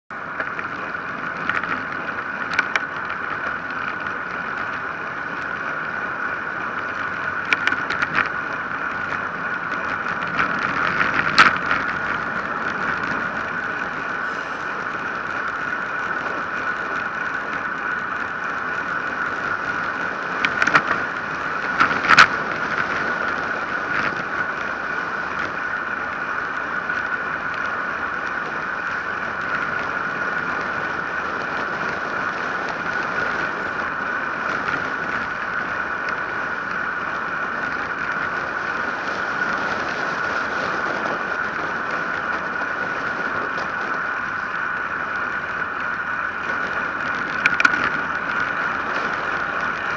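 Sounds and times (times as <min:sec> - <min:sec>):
bicycle tyre noise: 0:00.1 - 0:49.9
wind rushing on microphone: 0:00.1 - 0:49.9.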